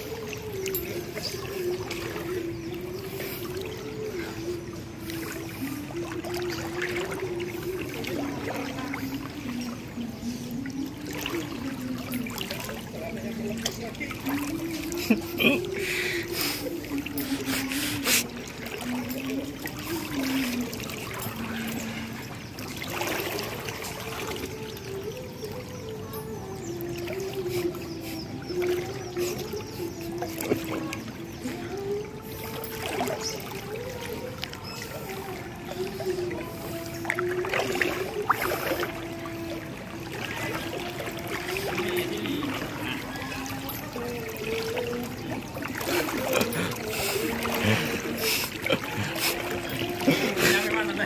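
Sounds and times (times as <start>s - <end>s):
faint music of low notes: 0.0s - 51.0s
water splashes: 0.0s - 51.0s
water trickling and sloshing: 0.0s - 51.0s.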